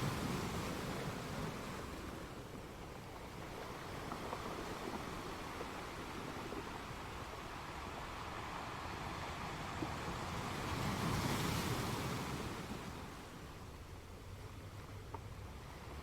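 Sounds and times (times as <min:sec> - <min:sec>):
sea waves washing ashore: 0:00.0 - 0:16.0.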